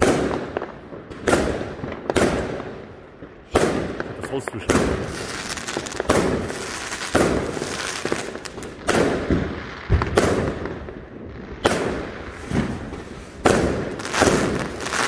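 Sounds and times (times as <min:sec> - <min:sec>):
fireworks bangs with crackle: 0:00.0 - 0:15.0.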